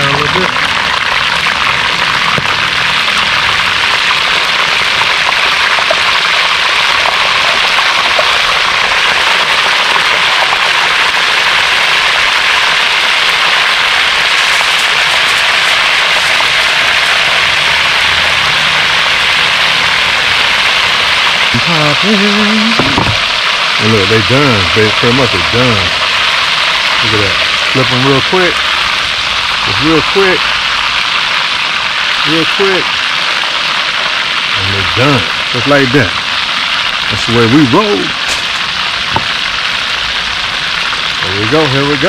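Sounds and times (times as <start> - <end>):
deep-frying sizzle and crackle: 0.0 - 42.0.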